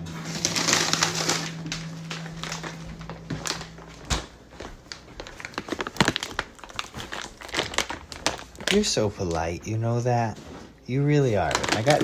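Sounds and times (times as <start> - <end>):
plastic packaging crackling: 0.0 - 9.6, 10.9 - 12.0
steady low hum: 0.0 - 12.0.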